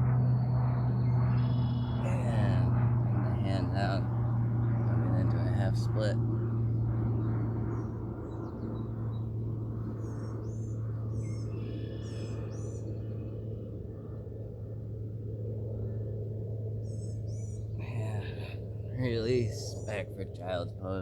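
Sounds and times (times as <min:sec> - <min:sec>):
birds chirping: 0:00.0 - 0:13.4, 0:16.8 - 0:21.0
steady low hum: 0:00.0 - 0:21.0.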